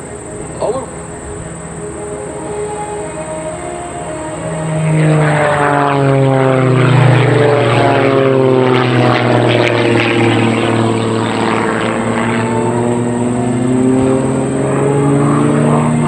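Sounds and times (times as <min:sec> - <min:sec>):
propeller plane engines: 0:00.0 - 0:16.0.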